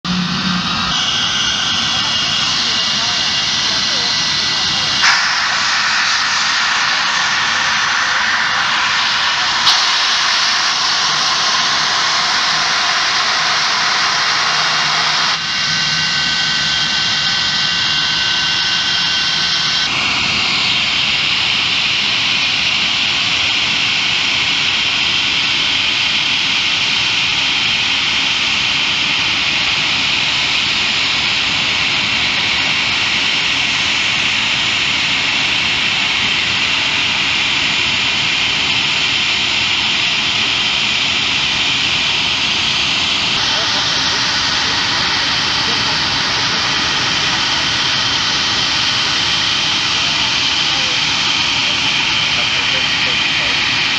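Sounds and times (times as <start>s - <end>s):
jet engines roaring: 0.0s - 53.9s
piercing high jet whine: 0.0s - 53.9s.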